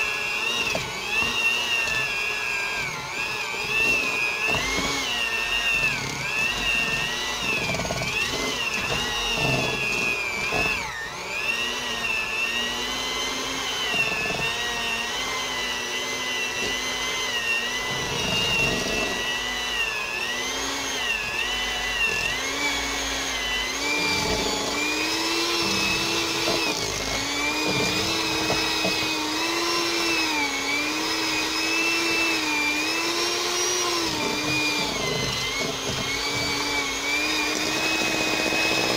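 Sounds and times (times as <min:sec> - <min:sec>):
electric mixer motor whine: 0:00.0 - 0:38.9.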